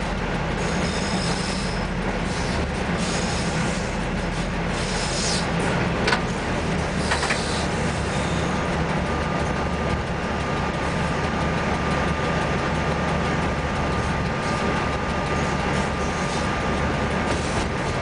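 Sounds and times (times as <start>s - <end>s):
locomotive diesel engine drone: 0.0s - 18.0s.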